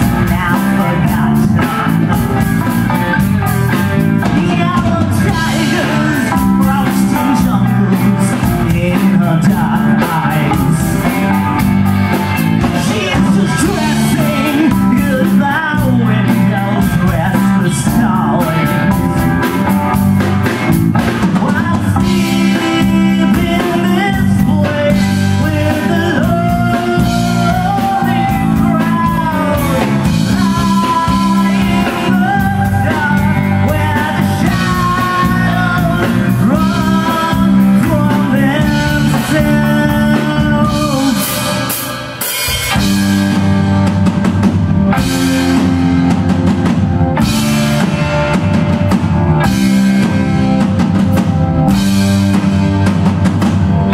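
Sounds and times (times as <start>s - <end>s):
man singing lead: 0.0s - 53.9s
rock band playing: 0.0s - 53.9s.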